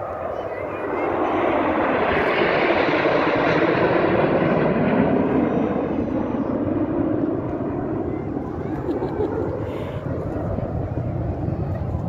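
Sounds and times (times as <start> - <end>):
jet engines flying overhead: 0.0 - 12.0.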